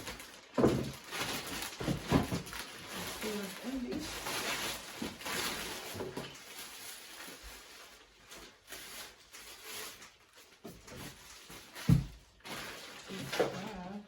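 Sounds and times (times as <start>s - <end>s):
packages rustling and knocking: 0.0s - 14.0s.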